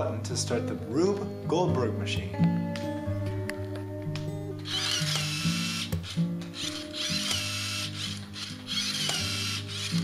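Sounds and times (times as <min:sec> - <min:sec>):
background music with low notes: 0:00.0 - 0:10.0.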